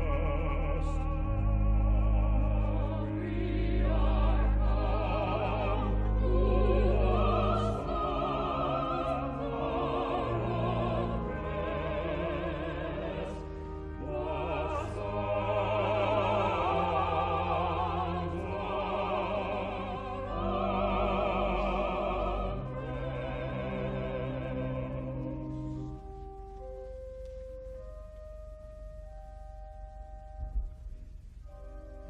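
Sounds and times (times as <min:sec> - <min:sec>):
large choir singing: 0:00.0 - 0:25.7.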